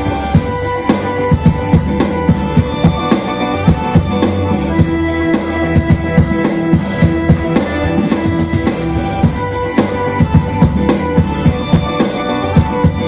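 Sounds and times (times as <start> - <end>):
drum-kit beat: 0.0 - 13.0
held notes: 0.0 - 13.0.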